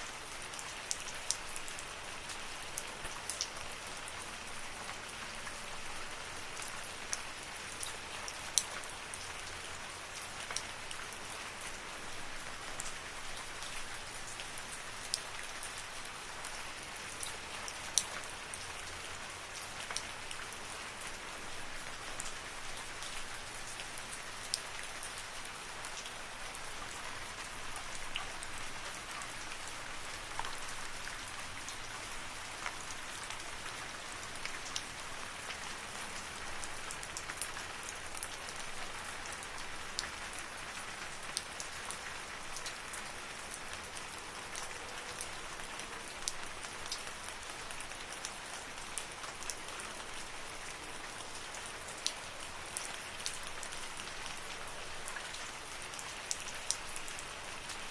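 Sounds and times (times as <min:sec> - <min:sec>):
steady rain hiss: 0:00.0 - 0:57.9.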